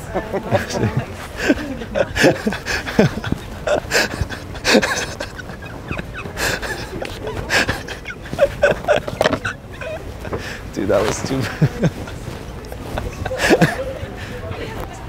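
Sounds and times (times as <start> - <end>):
women laughing and talking: 0.0 - 15.0.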